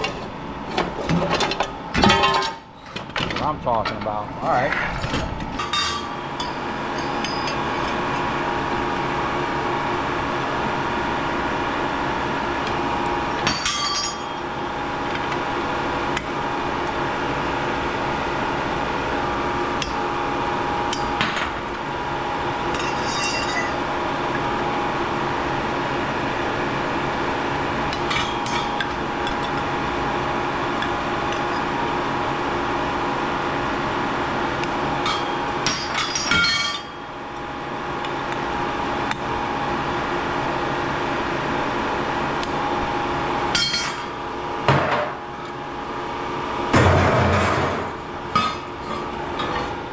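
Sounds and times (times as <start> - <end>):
steady hum: 0.0 - 49.9.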